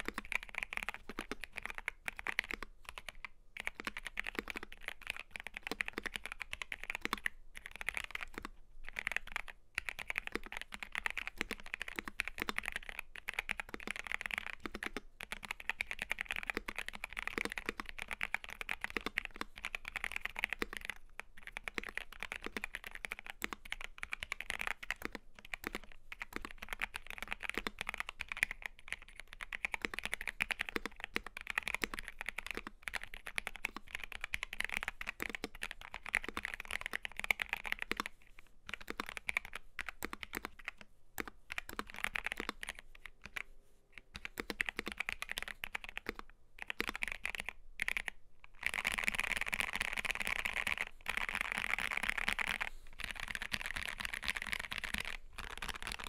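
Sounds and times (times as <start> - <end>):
mechanical keyboard typing: 0.0 - 56.0.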